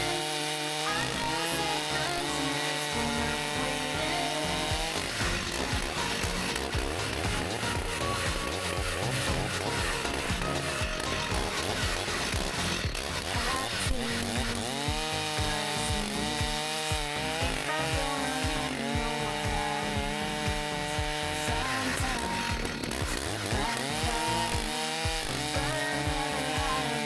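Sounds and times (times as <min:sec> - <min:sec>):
background music with steady beat: 0:00.0 - 0:27.0
chainsaw cutting wood: 0:00.0 - 0:27.0.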